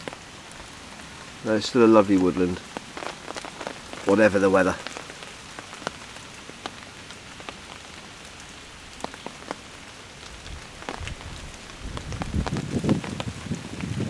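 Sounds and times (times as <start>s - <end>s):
rain on a tarp: 0.0s - 14.0s.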